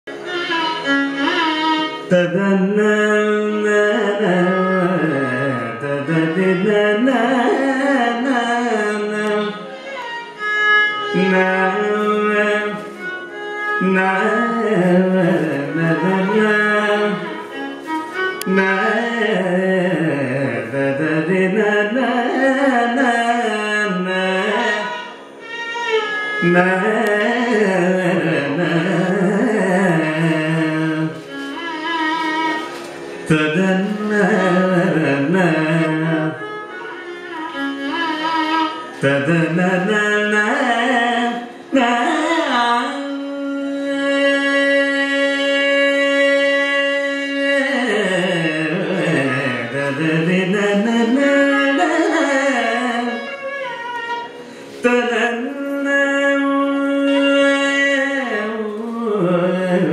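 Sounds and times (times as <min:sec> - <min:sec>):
violin: 0:00.0 - 0:59.9
man singing ornamented melody: 0:01.8 - 0:09.8, 0:11.1 - 0:13.0, 0:13.8 - 0:17.6, 0:18.4 - 0:25.2, 0:26.4 - 0:31.4, 0:33.2 - 0:36.5, 0:38.8 - 0:53.5, 0:54.7 - 0:59.9.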